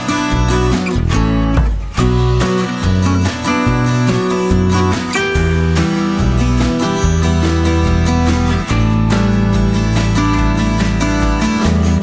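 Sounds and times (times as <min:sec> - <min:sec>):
strummed acoustic guitar music: 0:00.0 - 0:12.0.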